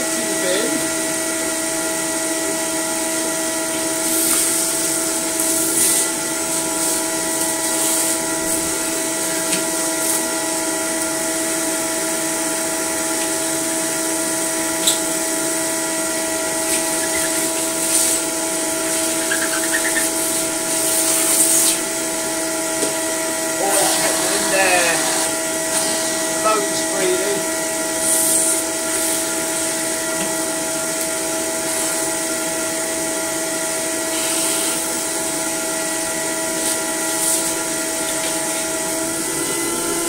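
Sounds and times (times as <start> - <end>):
vacuum cleaner motor whine: 0.0 - 40.0.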